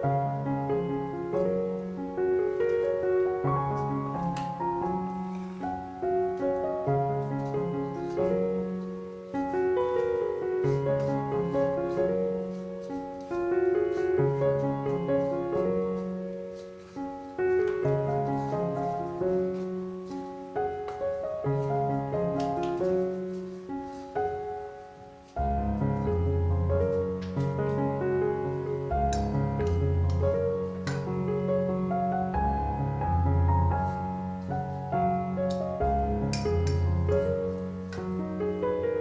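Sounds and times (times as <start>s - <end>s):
gentle piano music: 0.0s - 39.0s.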